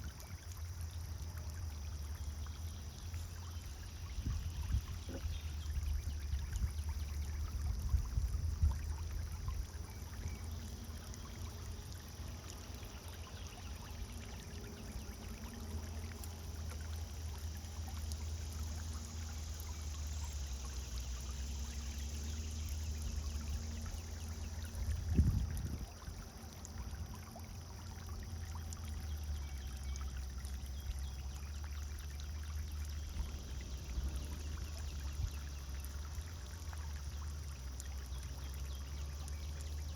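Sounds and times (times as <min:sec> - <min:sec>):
fountain splashing into water: 0:00.0 - 0:39.9.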